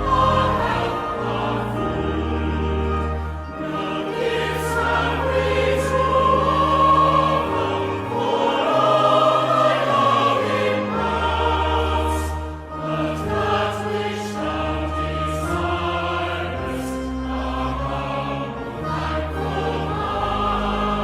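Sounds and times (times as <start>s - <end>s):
choir singing a hymn: 0.0s - 21.0s
church organ: 0.0s - 21.0s.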